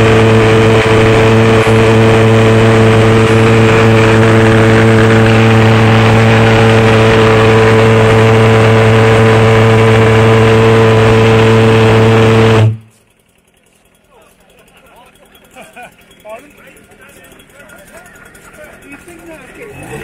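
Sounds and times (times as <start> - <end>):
pulse jet engine droning: 0.0 - 20.0.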